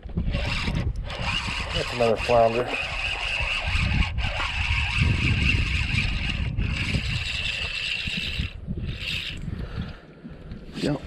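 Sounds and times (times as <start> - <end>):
fishing reel gears whining: 0.3 - 9.5.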